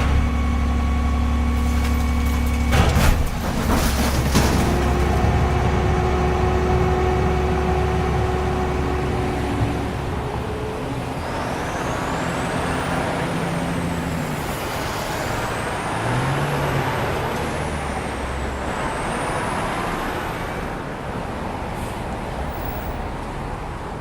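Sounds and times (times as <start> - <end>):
truck engine running: 0.0 - 20.1.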